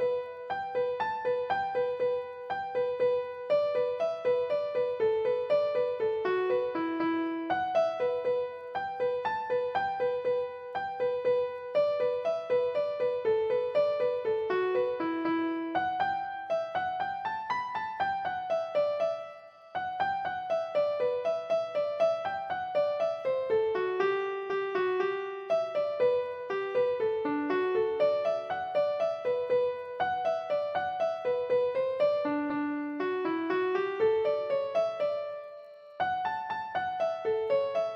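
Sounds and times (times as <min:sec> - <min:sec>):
piano melody: 0:00.0 - 0:37.9.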